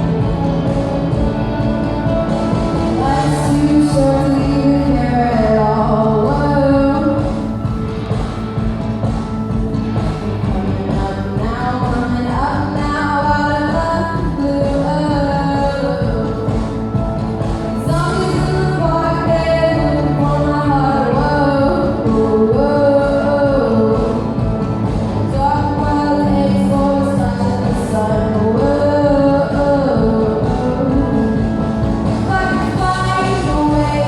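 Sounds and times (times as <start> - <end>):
person singing: 0.0 - 7.7, 10.2 - 34.0
instrumental backing: 0.0 - 34.0.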